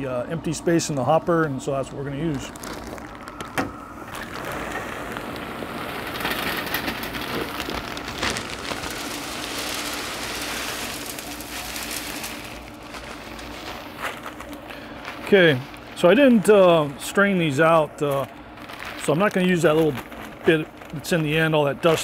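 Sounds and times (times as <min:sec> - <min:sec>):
pellets pouring into metal hopper: 0:01.6 - 0:03.4, 0:04.1 - 0:22.0.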